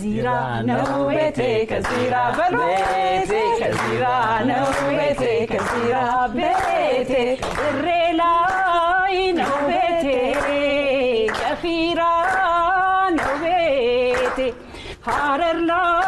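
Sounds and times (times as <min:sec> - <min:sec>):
unaccompanied group singing: 0:00.0 - 0:14.5.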